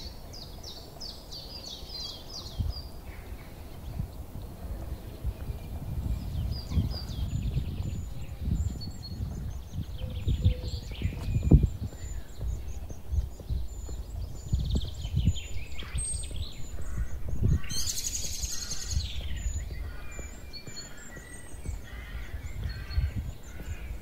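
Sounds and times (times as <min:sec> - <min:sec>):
footsteps on road: 0:00.0 - 0:24.0
songbirds chirping and singing: 0:00.0 - 0:24.0.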